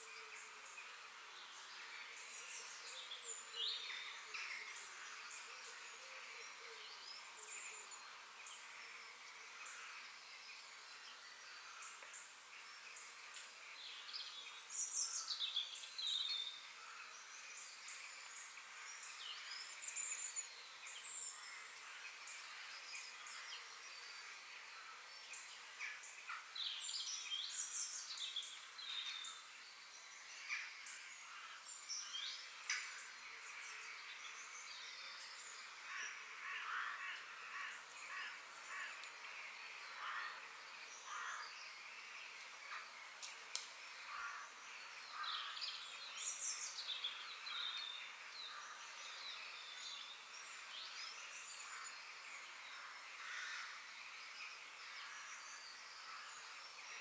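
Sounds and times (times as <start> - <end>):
soft steady hiss: 0.0 - 57.0.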